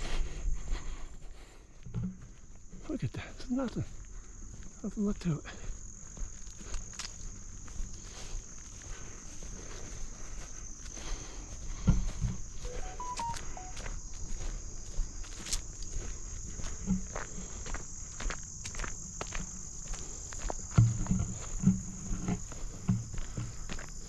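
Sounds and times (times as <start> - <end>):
footsteps on a trail: 0.0 - 24.0
insects droning: 0.0 - 24.0.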